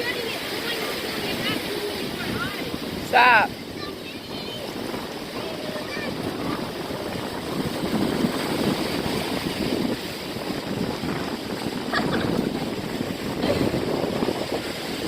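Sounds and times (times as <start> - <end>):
ocean surf washing in: 0.0 - 15.0
wind buffeting microphone: 0.0 - 15.0.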